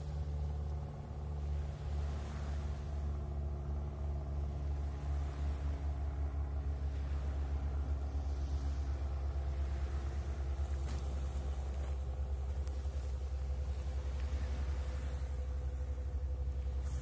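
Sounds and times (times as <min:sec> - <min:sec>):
faint hum: 0:00.0 - 0:17.0
low rumble: 0:00.0 - 0:17.0
small waves on beach: 0:00.0 - 0:17.0.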